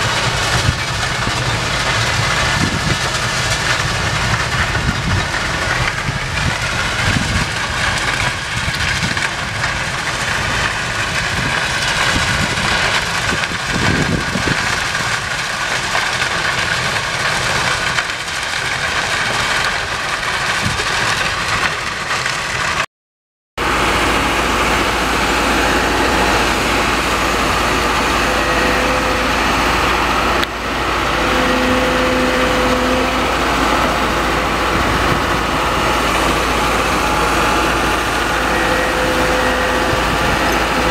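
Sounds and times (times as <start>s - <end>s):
diesel engine and broom sweeping: 0.0s - 22.8s, 23.6s - 40.9s
machine engine running steadily: 0.0s - 22.8s, 23.6s - 40.9s.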